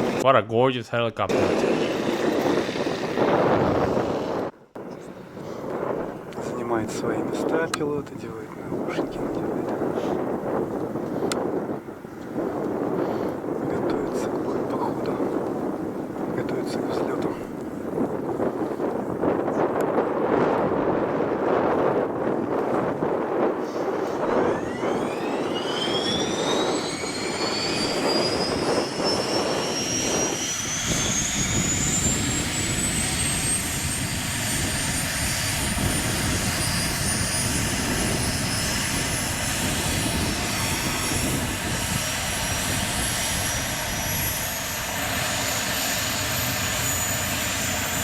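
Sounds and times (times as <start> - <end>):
gas turbine starting up whine: 1.3 - 48.0.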